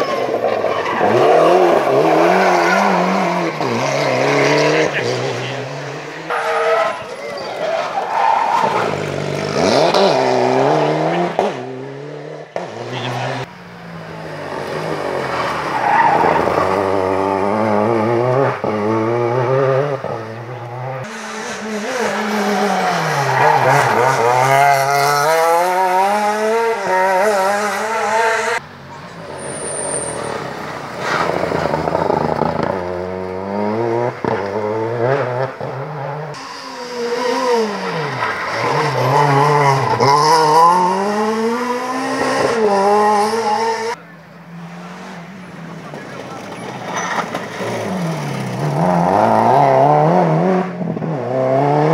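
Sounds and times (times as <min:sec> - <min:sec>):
rally car engine revving: 0:00.0 - 0:28.6, 0:29.2 - 0:51.9.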